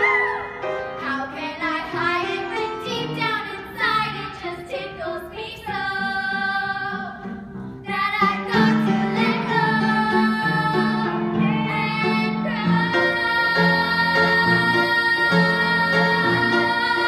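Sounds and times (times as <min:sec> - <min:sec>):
girls singing: 0:00.0 - 0:17.0.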